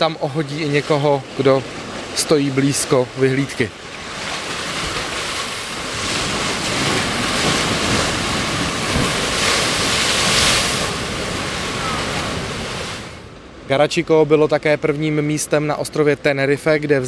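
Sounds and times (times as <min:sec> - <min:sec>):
ocean waves crashing on rock: 0:00.0 - 0:13.8.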